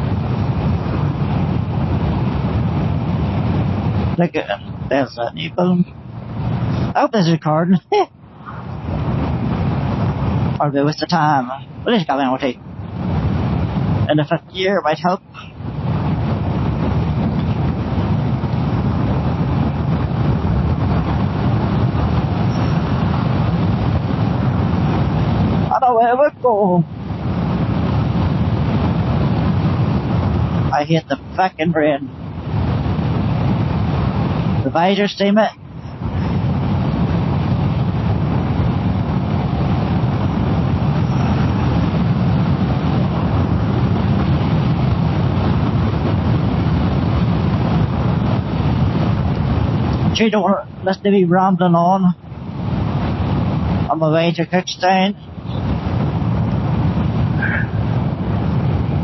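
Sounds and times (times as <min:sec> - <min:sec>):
wind and road rush: 0:00.0 - 0:59.0.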